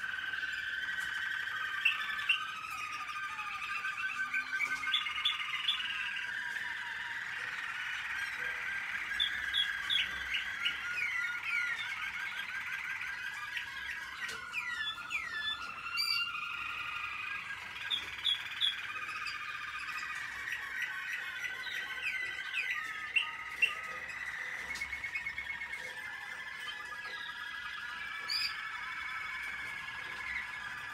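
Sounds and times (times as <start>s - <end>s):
canaries singing trills: 0.0s - 30.9s.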